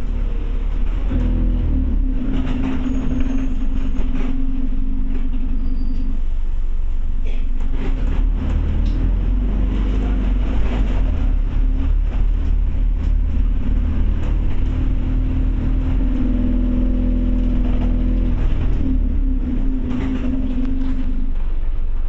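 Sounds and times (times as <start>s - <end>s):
bus diesel engine drone: 0.0s - 22.0s.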